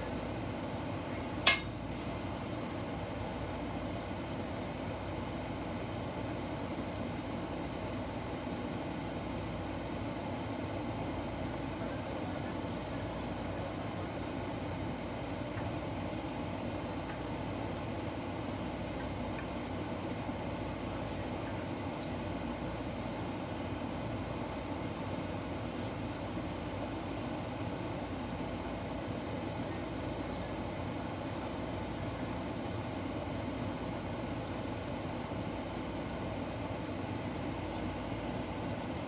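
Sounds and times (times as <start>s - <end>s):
low rumbling background noise: 0.0s - 39.0s.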